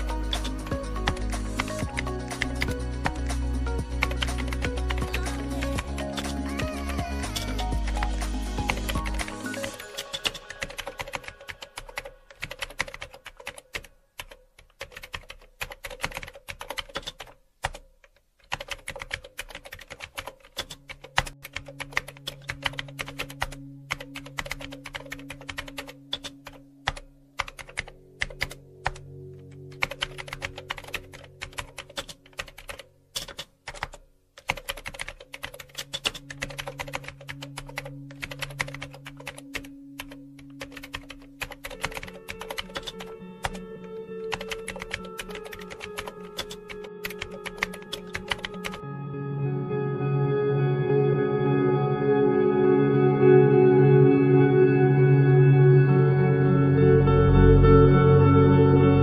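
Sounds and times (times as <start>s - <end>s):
soft background music: 0.0s - 17.2s, 18.5s - 59.0s
keyboard typing: 0.0s - 48.8s.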